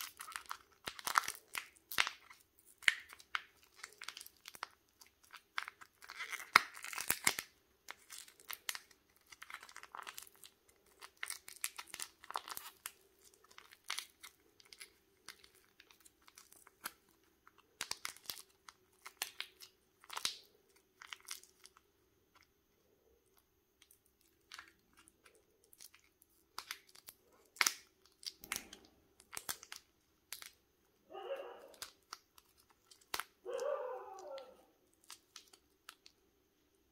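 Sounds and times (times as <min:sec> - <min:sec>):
wrapper crinkling and tearing: 0:00.0 - 0:22.6, 0:23.3 - 0:30.6, 0:31.4 - 0:36.2.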